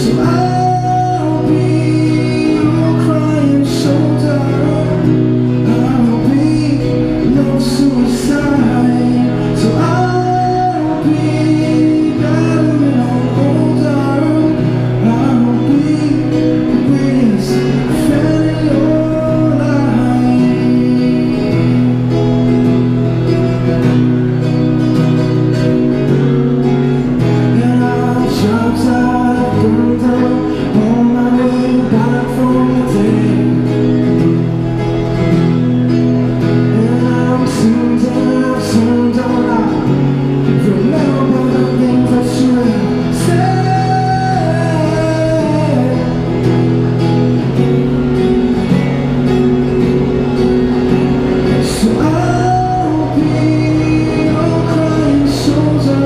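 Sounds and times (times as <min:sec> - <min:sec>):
man singing: 0:00.0 - 0:23.3, 0:27.0 - 0:47.2, 0:51.4 - 0:56.0
acoustic guitar: 0:00.0 - 0:56.0.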